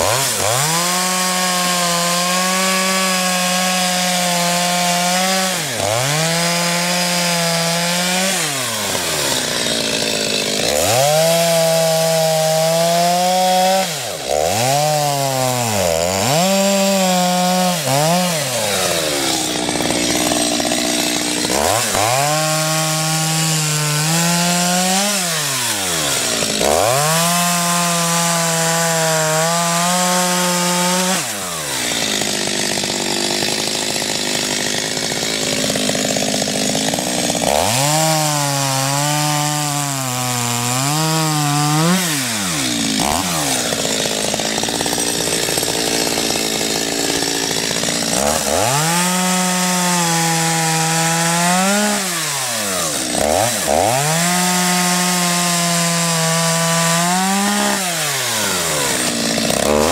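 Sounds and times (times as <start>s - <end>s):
chainsaw cutting wood: 0.0s - 59.9s
chainsaw engine revving: 0.0s - 59.9s.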